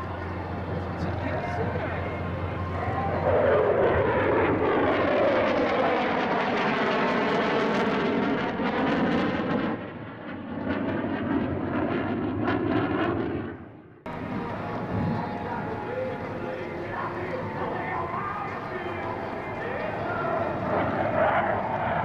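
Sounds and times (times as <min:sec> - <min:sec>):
jet passing overhead: 0:00.0 - 0:22.0.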